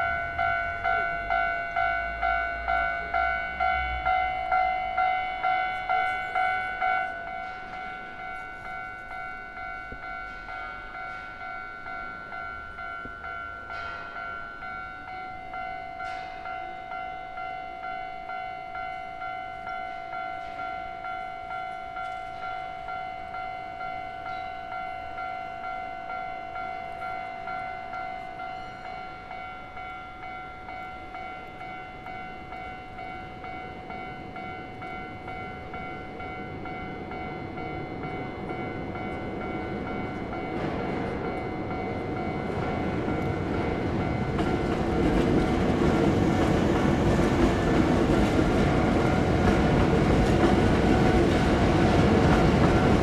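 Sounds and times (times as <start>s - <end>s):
low train rumble: 0.0s - 53.0s.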